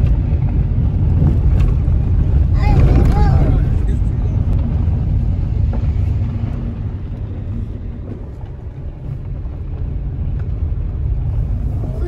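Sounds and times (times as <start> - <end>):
car driving on gravel: 0.0 - 12.0.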